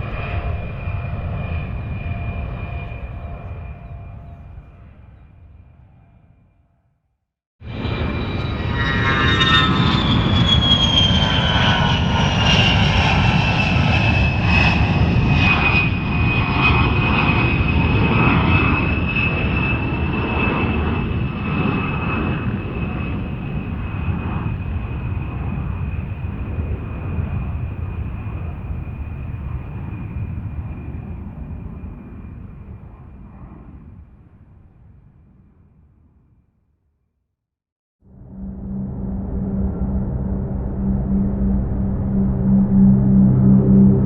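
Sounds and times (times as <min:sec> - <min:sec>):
airplane flying past: 0:00.0 - 0:06.5, 0:07.6 - 0:34.3, 0:38.1 - 0:44.0.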